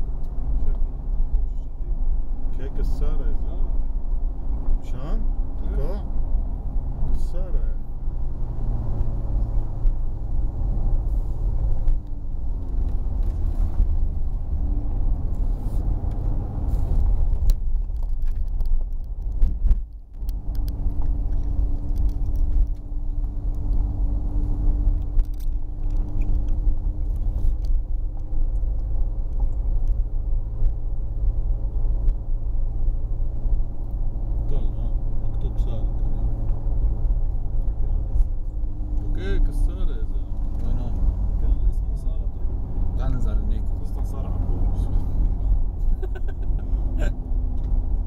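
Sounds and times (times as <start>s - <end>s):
car engine hum: 0.0s - 48.0s
road rumble: 0.0s - 48.0s.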